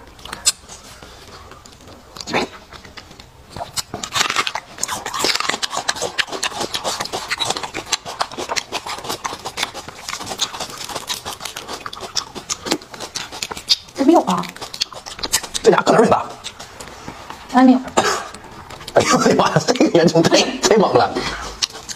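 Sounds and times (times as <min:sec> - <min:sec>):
wet chewing mouth clicks: 0:00.0 - 0:19.1, 0:21.3 - 0:21.9.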